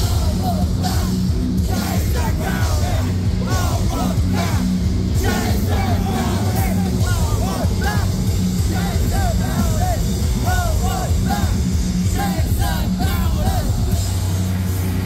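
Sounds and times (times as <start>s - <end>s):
shouted vocals: 0.0s - 14.3s
bass: 0.0s - 15.0s
distorted electric guitars: 0.0s - 15.0s
drums: 0.0s - 15.0s.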